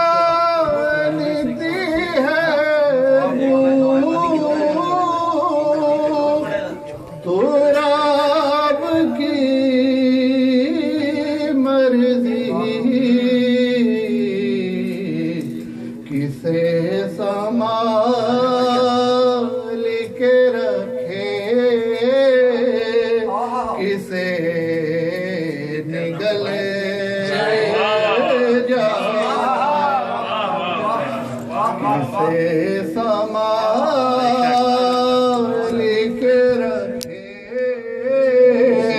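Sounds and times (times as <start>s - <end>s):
man singing devotional verse: 0.0s - 38.9s.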